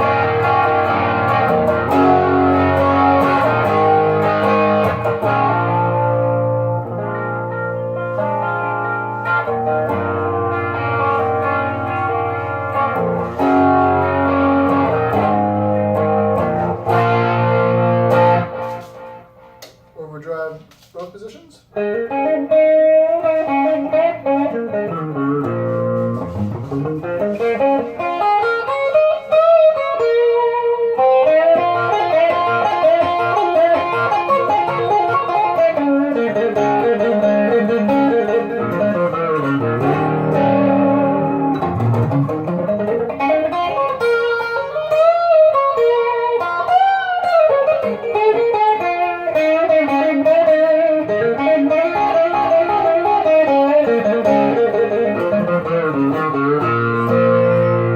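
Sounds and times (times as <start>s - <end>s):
overdriven electric guitar lead: 0.0s - 19.8s, 21.8s - 57.9s.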